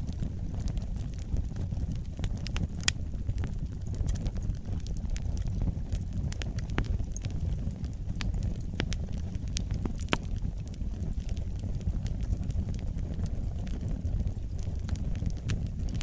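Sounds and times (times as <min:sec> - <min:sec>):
low rumble of fire: 0:00.0 - 0:16.0
wood fire pops and snaps: 0:00.0 - 0:16.0.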